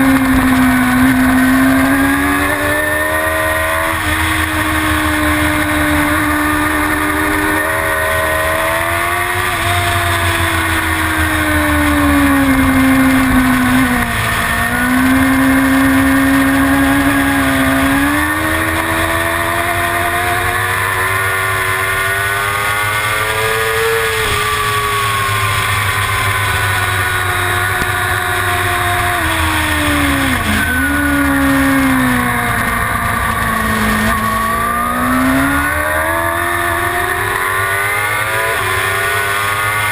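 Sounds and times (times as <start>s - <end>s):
motorcycle engine at racing revs: 0.0s - 39.9s.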